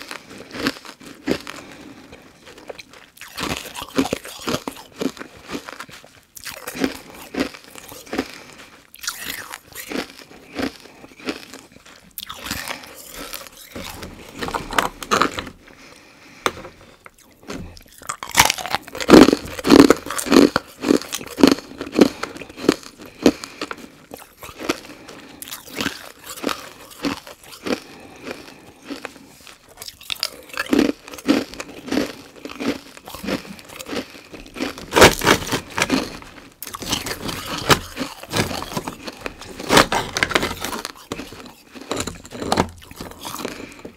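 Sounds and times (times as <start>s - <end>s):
ice being crunched by teeth: 0.0s - 15.6s, 17.0s - 43.9s.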